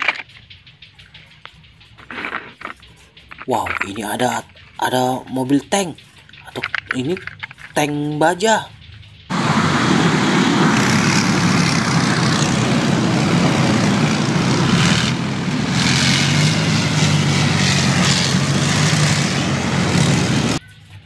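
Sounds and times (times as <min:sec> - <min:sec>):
heavy tracked vehicle engines: 0:00.0 - 0:21.0.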